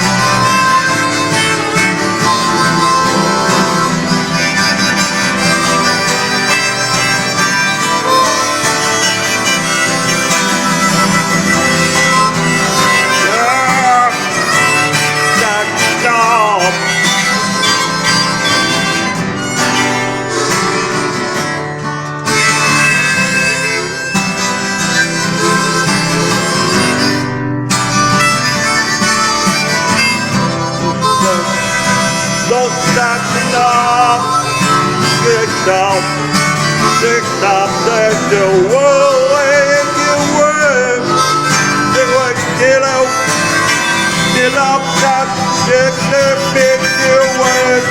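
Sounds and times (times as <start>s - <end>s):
instrumental music: 0.0s - 47.9s.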